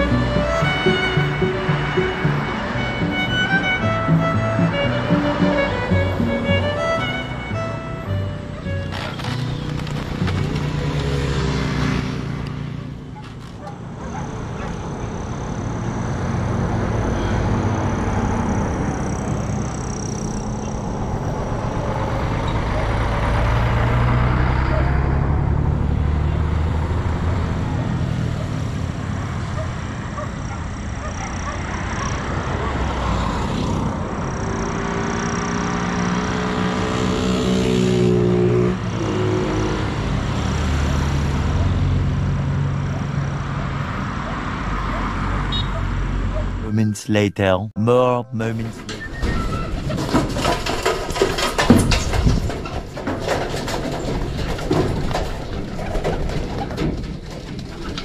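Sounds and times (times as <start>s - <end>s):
vehicles passing: 0.0s - 49.1s.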